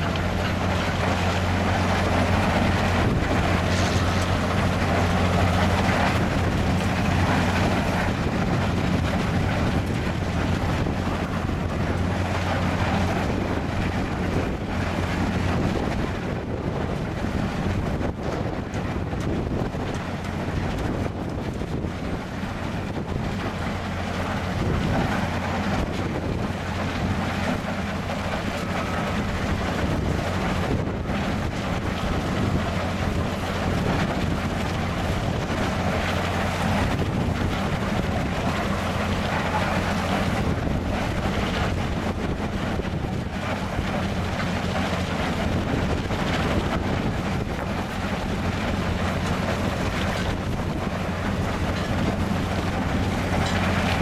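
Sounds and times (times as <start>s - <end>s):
machine droning: 0.0s - 54.0s
wind buffeting microphone: 0.0s - 54.0s.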